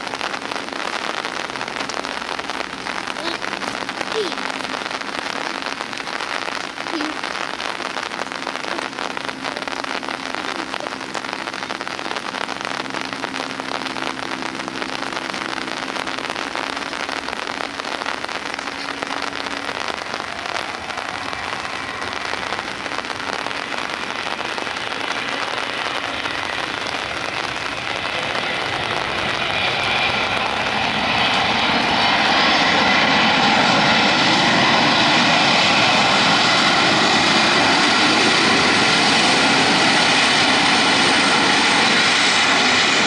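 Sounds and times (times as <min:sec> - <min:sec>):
heavy rain pouring: 0:00.0 - 0:43.0
high whine: 0:00.0 - 0:43.0.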